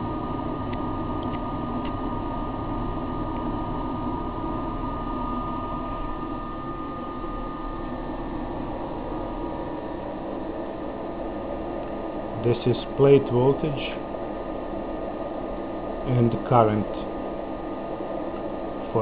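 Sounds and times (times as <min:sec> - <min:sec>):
cooling blower hum and rushing air: 0:00.0 - 0:19.0.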